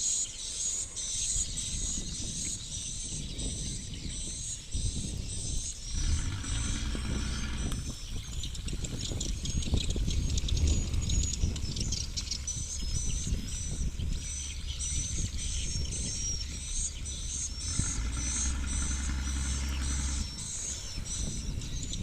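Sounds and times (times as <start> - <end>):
animal chirping: 0.0 - 22.0
low rumble: 3.3 - 22.0.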